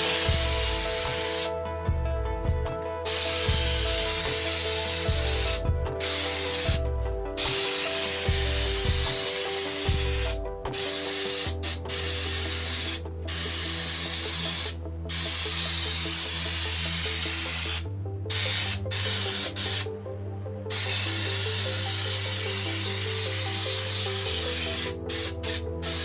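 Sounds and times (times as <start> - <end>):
spray gun hissing: 0.0 - 1.6, 2.9 - 19.9, 20.7 - 26.0
background music: 0.0 - 26.0.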